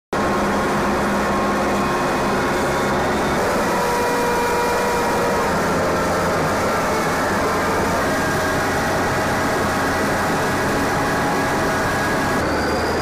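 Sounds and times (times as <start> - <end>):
tracked vehicle engines droning: 0.2 - 13.0.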